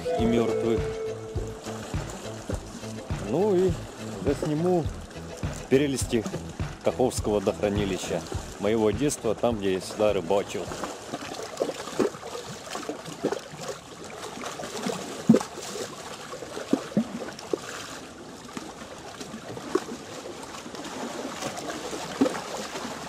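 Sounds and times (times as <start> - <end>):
waves splashing against rocks: 0.3 - 23.0.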